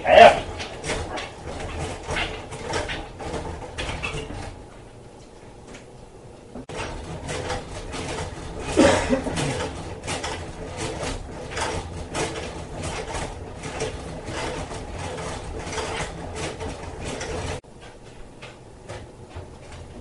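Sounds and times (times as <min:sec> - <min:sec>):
gears clattering and ratcheting: 0:00.0 - 0:04.8, 0:06.6 - 0:20.0
steady low hum: 0:00.0 - 0:20.0.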